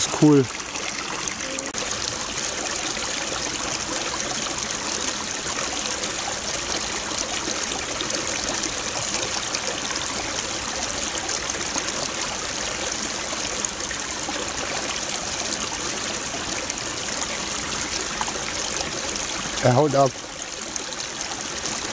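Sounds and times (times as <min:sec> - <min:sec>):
small stream rushing and trickling: 0:00.0 - 0:21.9.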